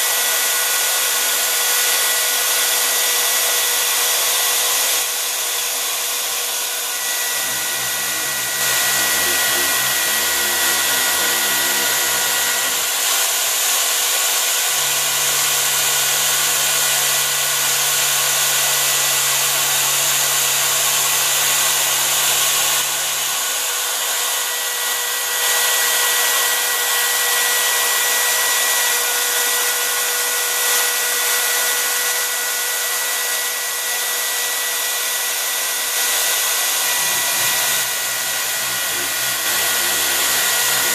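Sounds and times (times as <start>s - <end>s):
router motor whining: 0.0s - 40.9s.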